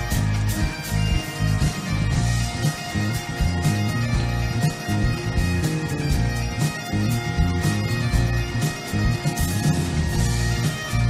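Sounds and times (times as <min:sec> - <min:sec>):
live band playing folk music: 0:00.0 - 0:11.0
steady drum beat: 0:00.0 - 0:11.0.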